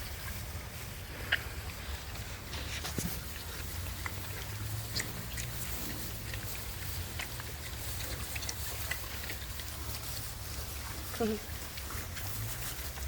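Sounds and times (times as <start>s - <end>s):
piglets clicking and rustling: 0.0s - 13.0s.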